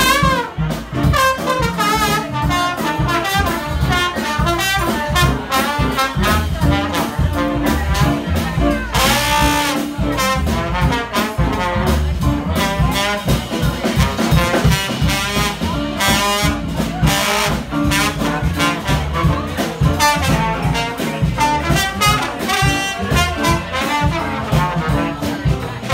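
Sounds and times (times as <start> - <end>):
swing band playing: 0.0 - 25.9.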